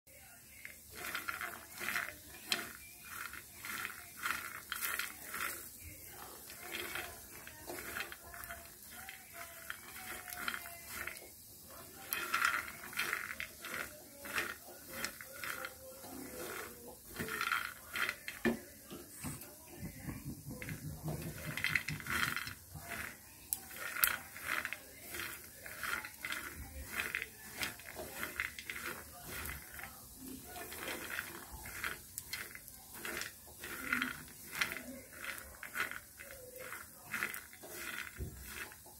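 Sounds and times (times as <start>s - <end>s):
peanuts rattling in frying pan: 0.1s - 38.9s.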